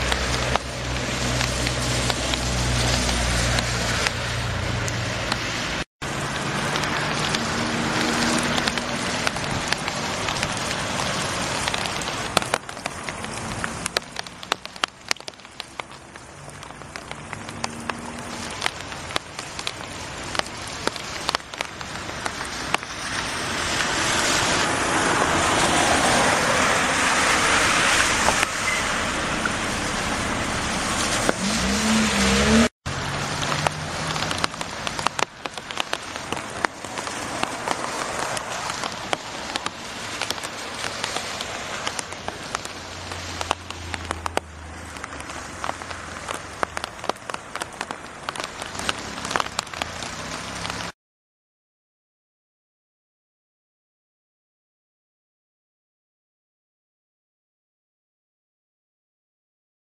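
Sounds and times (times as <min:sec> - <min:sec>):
heavy rain on wet pavement: 0:00.0 - 0:51.0.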